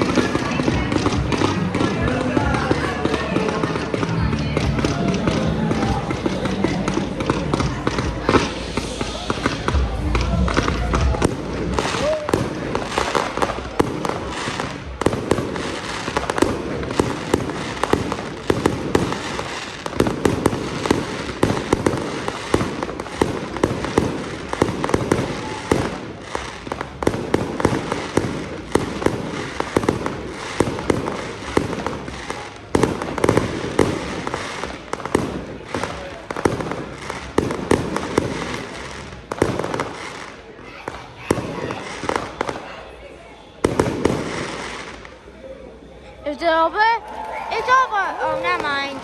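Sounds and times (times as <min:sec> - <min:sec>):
fireworks popping and banging: 0:00.0 - 0:45.4, 0:46.2 - 0:49.0.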